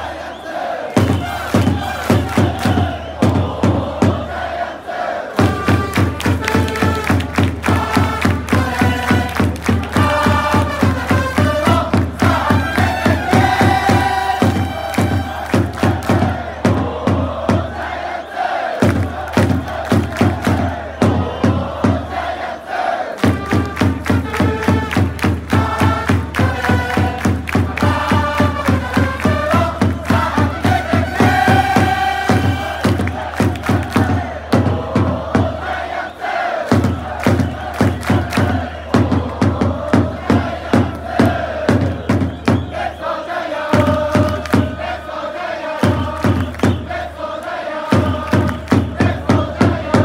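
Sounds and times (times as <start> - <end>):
crowd singing along: 0.0 - 50.0
trumpets playing a cheer: 0.0 - 50.0
fast drum beat: 1.0 - 4.3, 5.4 - 17.9, 18.8 - 22.2, 23.2 - 35.7, 36.7 - 42.8, 43.7 - 44.9, 45.8 - 46.9, 47.9 - 50.0.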